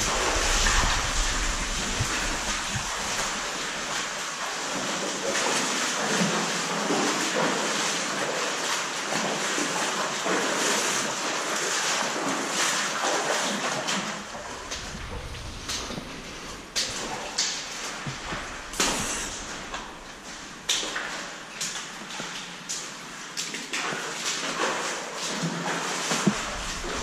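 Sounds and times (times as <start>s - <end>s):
people wading through water: 0.0s - 27.0s.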